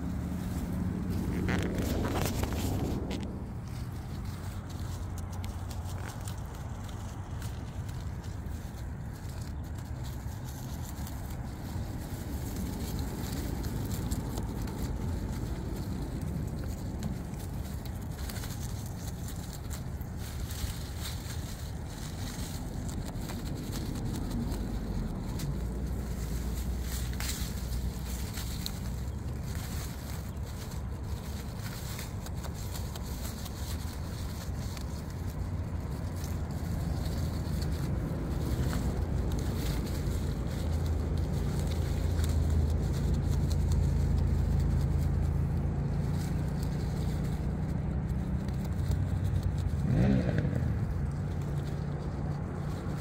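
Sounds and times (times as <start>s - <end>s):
beaver chewing leaves: 0.0s - 53.0s
leaves rustling: 0.0s - 53.0s
low rumble: 0.0s - 53.0s.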